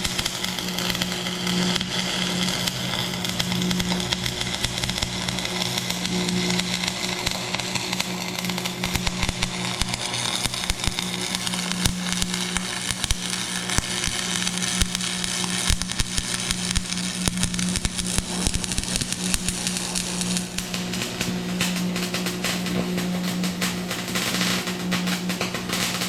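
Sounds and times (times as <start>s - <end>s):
welding arc crackling: 0.0s - 26.0s
welding machine hum: 0.0s - 26.0s.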